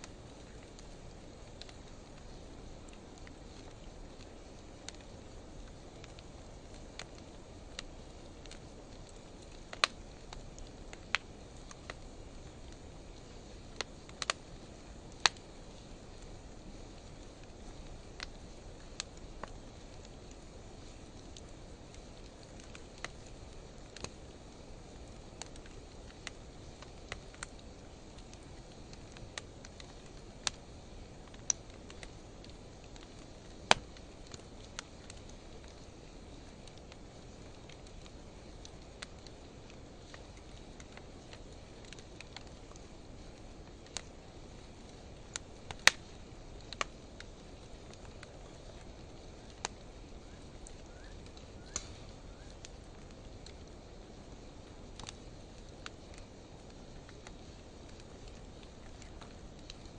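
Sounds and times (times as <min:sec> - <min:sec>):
fire crackles and pops: 0:00.0 - 0:59.9.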